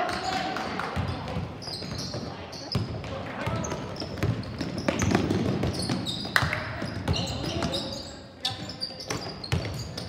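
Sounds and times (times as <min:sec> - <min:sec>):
basketball bouncing on wooden floor: 0:00.1 - 0:07.8, 0:08.6 - 0:10.0
sneakers squeaking on court: 0:00.1 - 0:10.0.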